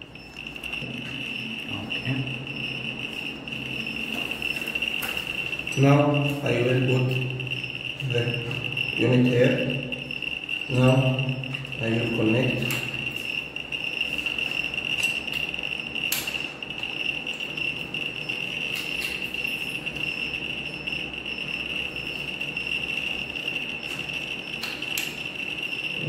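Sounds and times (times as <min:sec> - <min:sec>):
steady high-pitched tone: 0:00.0 - 0:26.0.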